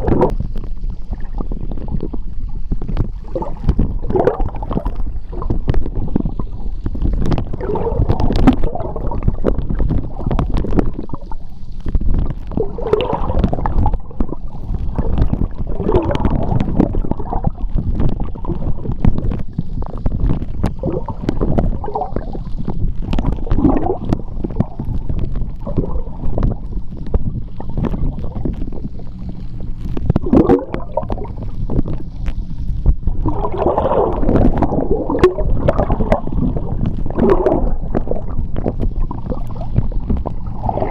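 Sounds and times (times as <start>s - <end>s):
bubbling gurgles: 0.0s - 40.9s
sharp underwater clicks: 0.0s - 40.9s
underwater churning rumble: 0.0s - 40.9s.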